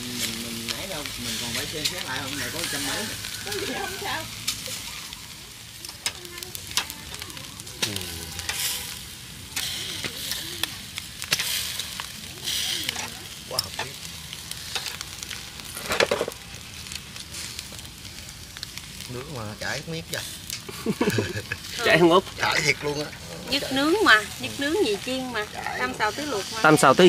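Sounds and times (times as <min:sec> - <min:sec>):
meat sizzling on a grill: 0:00.0 - 0:27.0
pops and crackles: 0:00.0 - 0:27.0.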